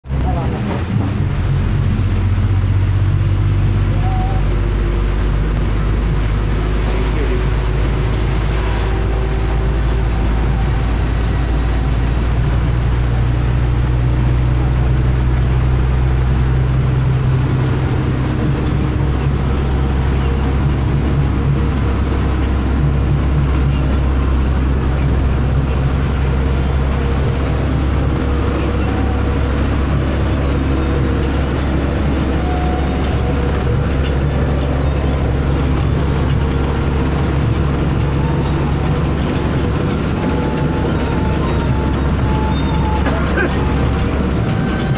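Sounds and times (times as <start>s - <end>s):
bus engine drone and road rumble: 0.0s - 44.9s.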